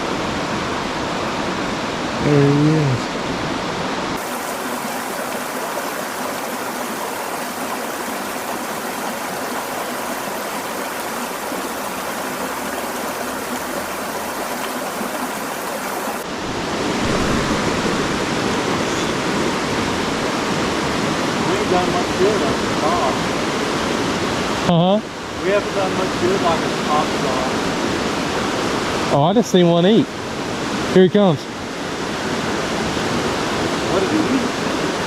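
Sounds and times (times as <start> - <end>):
stream flowing over rocks: 0.0 - 35.0.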